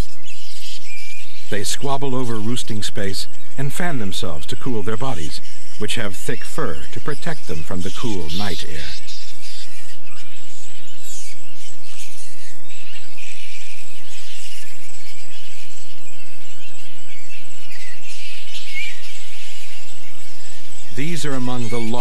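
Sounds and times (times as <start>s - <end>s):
bats squealing and screeching: 0.0s - 22.0s.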